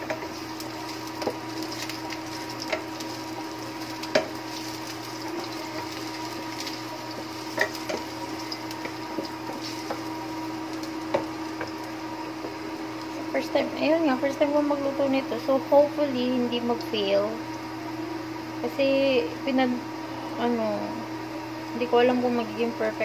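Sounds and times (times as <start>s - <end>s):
oil sizzling: 0.0s - 18.7s
steady hum: 0.0s - 23.0s.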